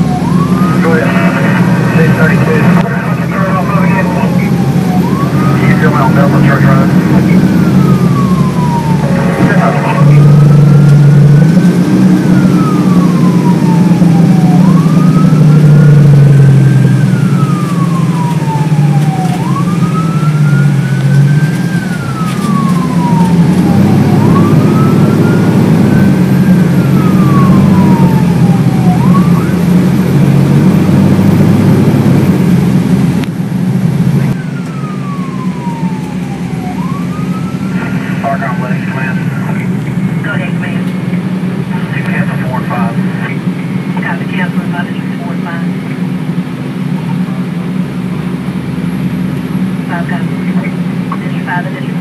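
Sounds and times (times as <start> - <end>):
diesel engine drone: 0.0 - 52.0
fire engine siren wailing: 0.0 - 52.0.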